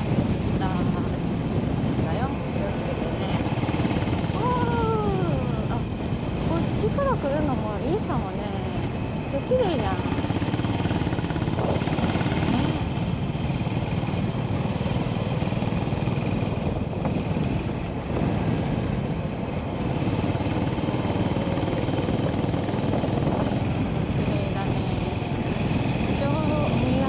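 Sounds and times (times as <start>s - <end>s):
motorcycle engine cruising: 0.0s - 27.0s
wind rushing over microphone: 0.0s - 27.0s.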